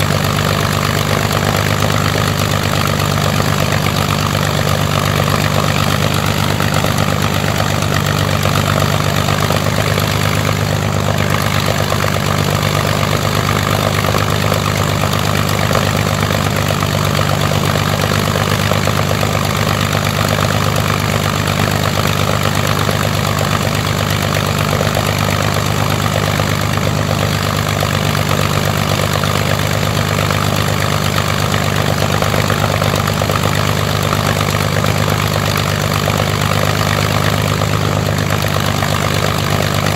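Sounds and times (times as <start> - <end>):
aero engine running steadily: 0.0 - 39.9.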